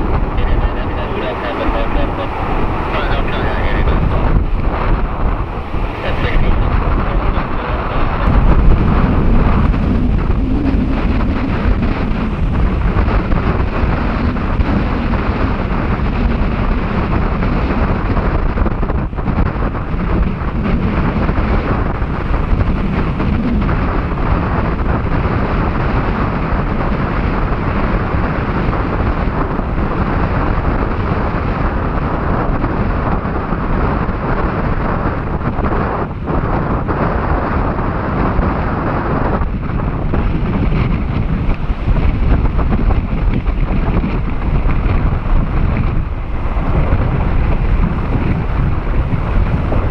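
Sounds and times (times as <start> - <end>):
jet engine rumble: 0.0 - 49.9
wind buffeting microphone: 0.0 - 49.9.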